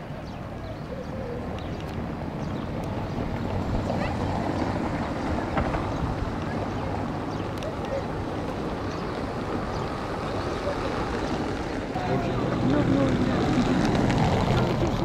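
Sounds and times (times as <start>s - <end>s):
faint distant voices: 0.0s - 15.0s
wind buffeting microphone: 0.0s - 15.0s
steady low rumble: 2.0s - 15.0s.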